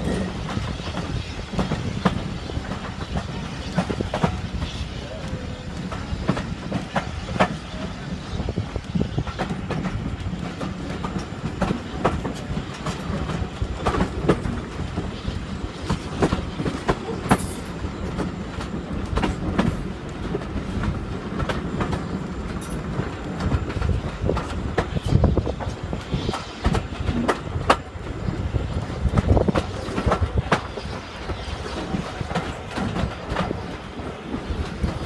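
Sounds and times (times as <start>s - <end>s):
train carriage rumble: 0.0s - 35.0s.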